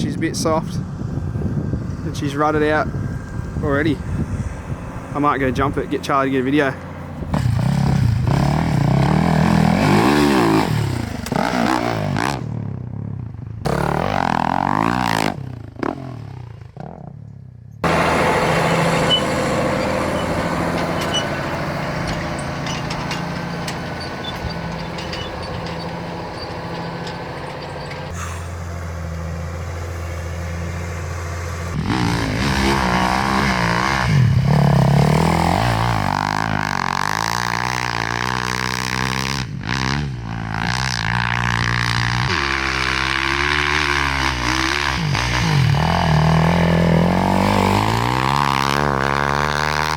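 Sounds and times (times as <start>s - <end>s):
vehicle engine revving: 1.2s - 12.7s, 13.4s - 17.2s, 17.8s - 49.9s.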